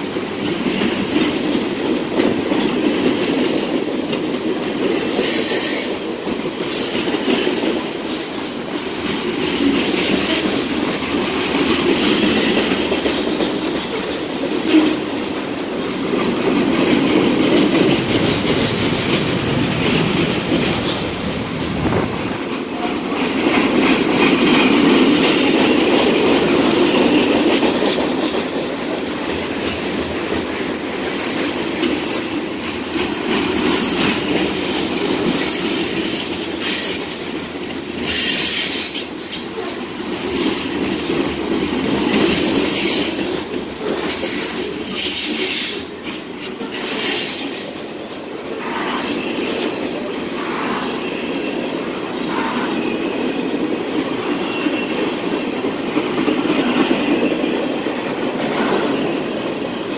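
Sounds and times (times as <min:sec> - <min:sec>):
wheels clicking over rail joints: 0:00.0 - 0:50.7
freight cars rumbling on rails: 0:00.0 - 0:59.9.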